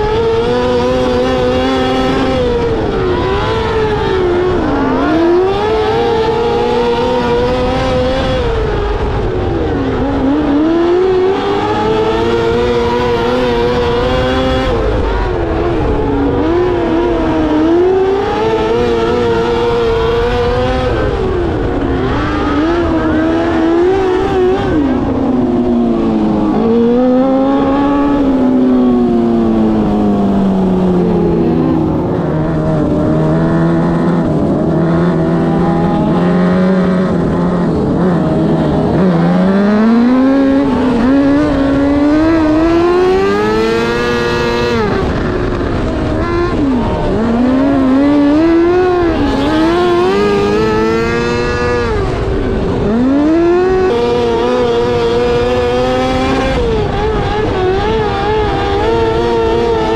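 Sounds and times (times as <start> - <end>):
motorcycle engine racing: 0.0 - 59.9.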